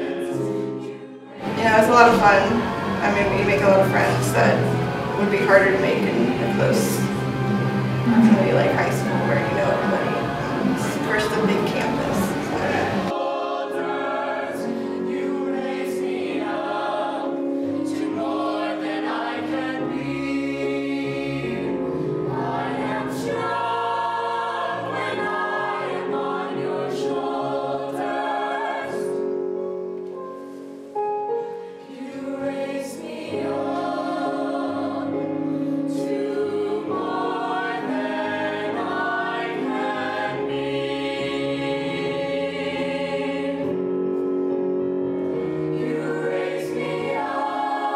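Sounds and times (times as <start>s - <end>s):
choir singing: 0.0s - 47.9s
instrumental accompaniment: 0.0s - 47.9s.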